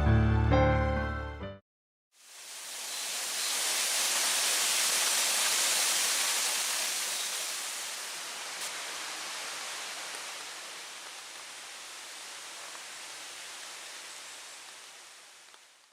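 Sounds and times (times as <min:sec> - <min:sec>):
waterfall rushing: 0:02.2 - 0:15.5.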